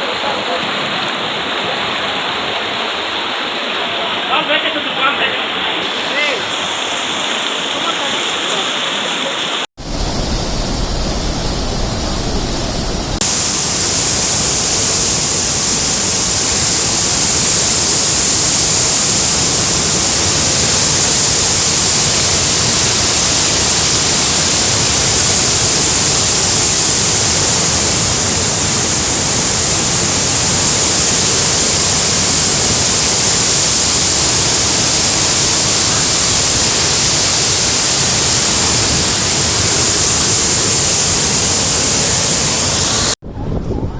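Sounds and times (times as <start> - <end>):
water rushing: 0.0 - 43.9.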